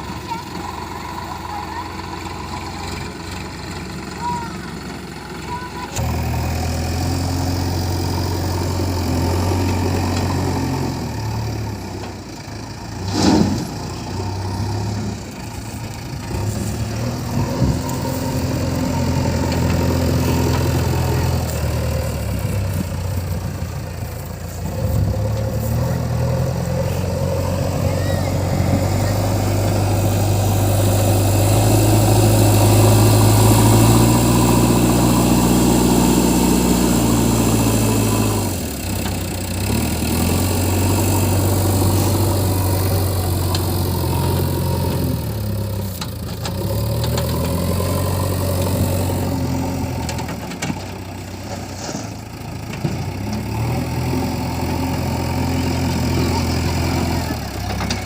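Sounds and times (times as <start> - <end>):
heavy diesel engines revving: 0.0 - 58.0.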